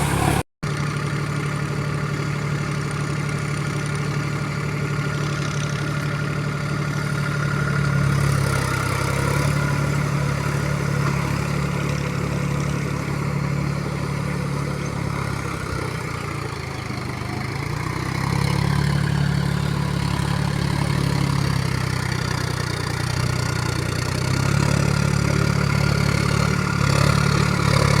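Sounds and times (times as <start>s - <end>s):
heavy machinery diesel engine: 0.0s - 28.0s.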